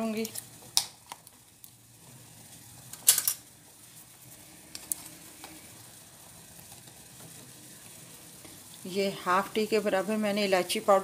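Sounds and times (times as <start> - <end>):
gas burner hiss: 0.0 - 11.0.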